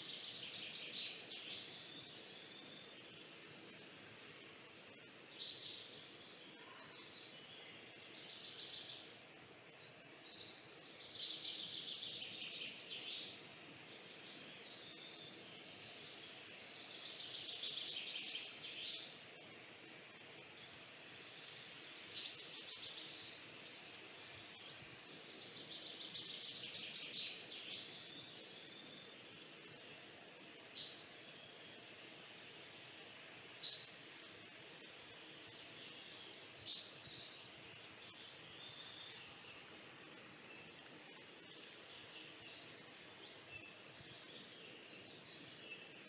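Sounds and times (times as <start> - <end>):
faint background hiss: 0.0 - 46.0.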